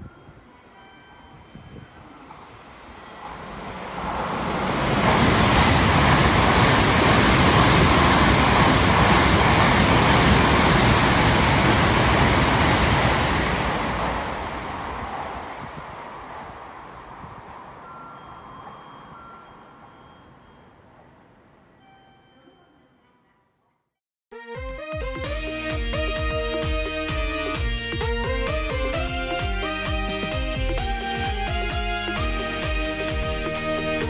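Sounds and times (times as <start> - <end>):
train rushing past: 0.0 - 21.8, 25.2 - 34.0.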